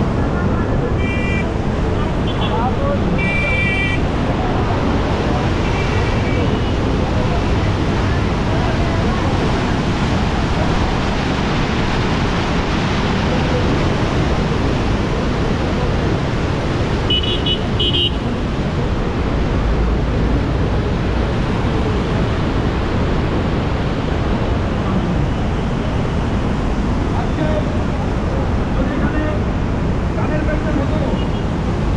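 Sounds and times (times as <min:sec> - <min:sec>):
water rushing through sluice gate: 0:00.0 - 0:31.9.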